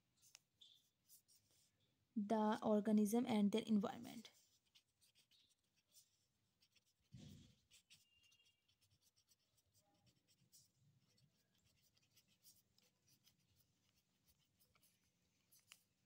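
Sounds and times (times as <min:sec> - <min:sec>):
pen scratching on paper: 0:00.1 - 0:01.9, 0:03.6 - 0:16.0.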